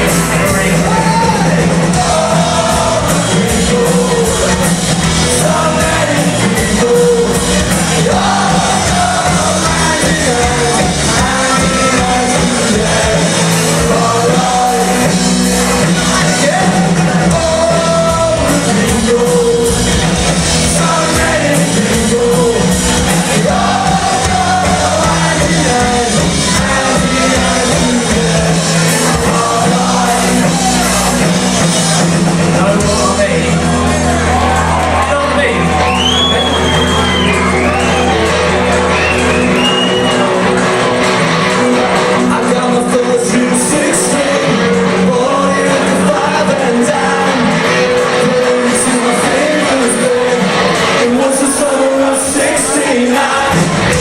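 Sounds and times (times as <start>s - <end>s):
lead singer singing: 0.0s - 38.2s, 41.5s - 54.0s
live band playing: 0.0s - 54.0s.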